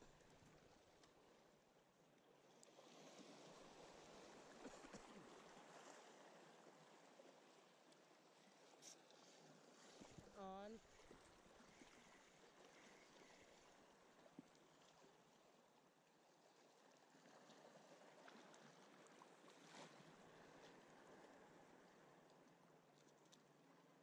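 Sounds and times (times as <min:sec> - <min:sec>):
sea water lapping against rocks: 0:02.3 - 0:22.3.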